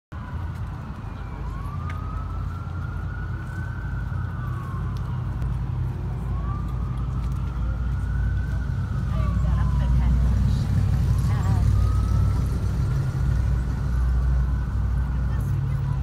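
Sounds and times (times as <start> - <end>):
emergency siren wailing: 0.1 - 16.0.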